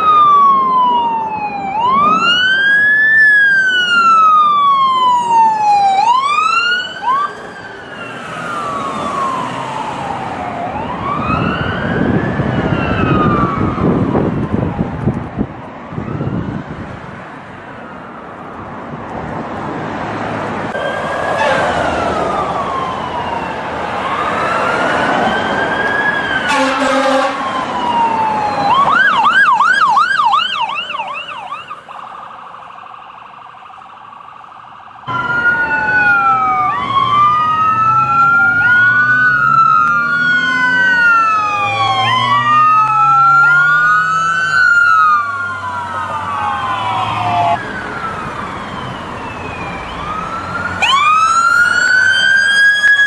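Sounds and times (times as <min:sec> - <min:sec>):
siren fast yelp: 0:00.0 - 0:13.9, 0:20.8 - 0:32.1, 0:35.1 - 0:53.0
ambulance sirens wailing: 0:00.0 - 0:53.0
street noise: 0:00.0 - 0:53.0.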